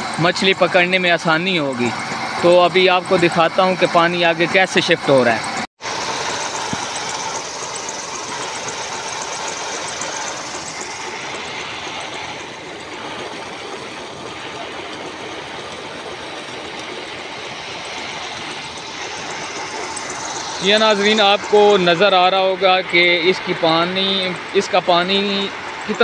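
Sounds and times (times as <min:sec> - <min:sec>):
electric water pump running: 0:00.0 - 0:26.0.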